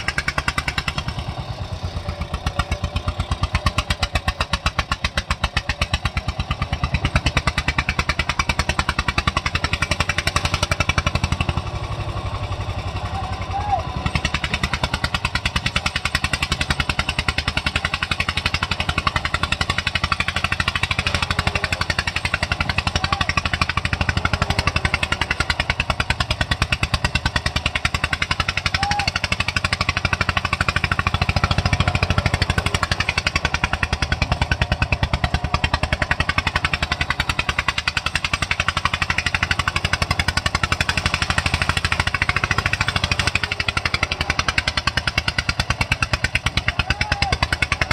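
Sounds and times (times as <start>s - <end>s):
tractor diesel engine under load: 0.0s - 47.9s.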